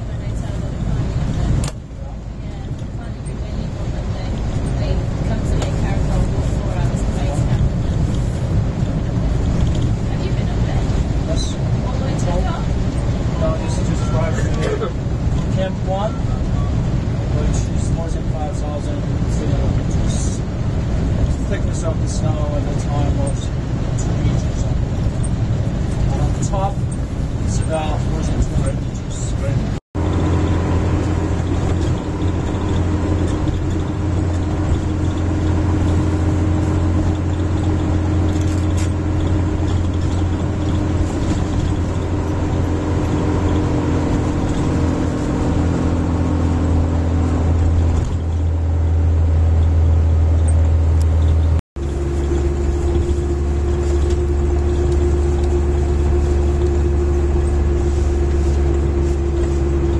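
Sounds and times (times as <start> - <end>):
van engine and road noise: 0.0 - 59.9.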